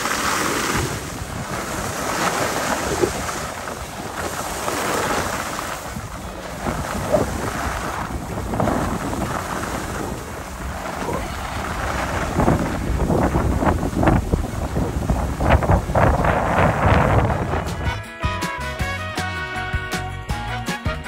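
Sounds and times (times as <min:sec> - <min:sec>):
skis scraping on snow: 0:00.0 - 0:17.9
wind on microphone: 0:00.0 - 0:18.1.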